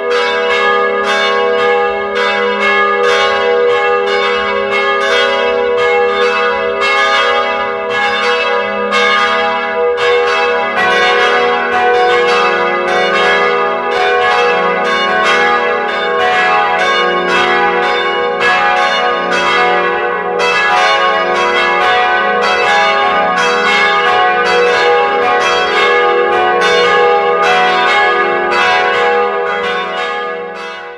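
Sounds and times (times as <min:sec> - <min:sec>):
church bells pealing: 0:00.0 - 0:30.9.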